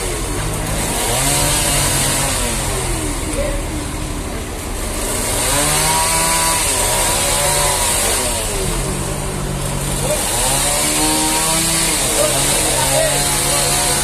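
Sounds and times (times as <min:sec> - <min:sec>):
band saw cutting log: 0:00.0 - 0:14.0.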